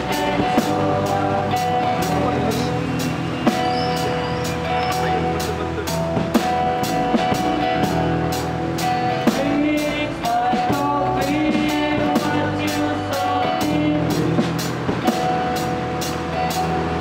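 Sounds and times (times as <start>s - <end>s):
drum kit beat with cymbal: 0.0s - 17.0s
strummed acoustic guitars: 0.0s - 17.0s.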